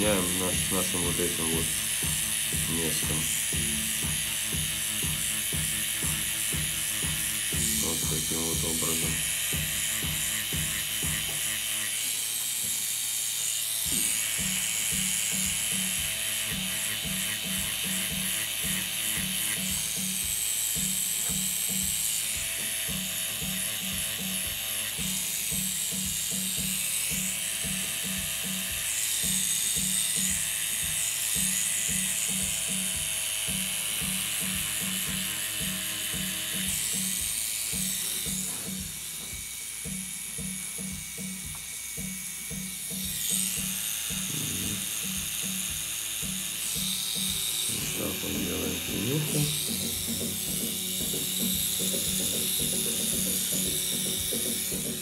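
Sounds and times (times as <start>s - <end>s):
background music with beat: 0.0s - 11.7s, 13.8s - 55.0s
tattoo machine buzzing: 0.0s - 55.0s.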